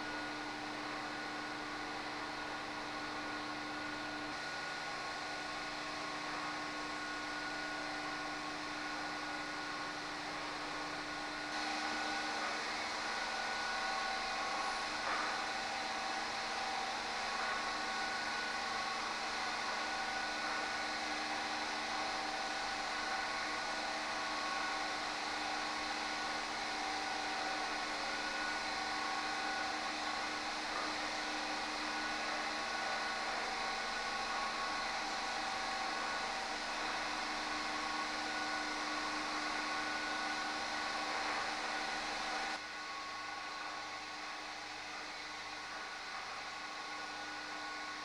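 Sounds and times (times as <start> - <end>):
machinery hum: 0.0 - 48.0.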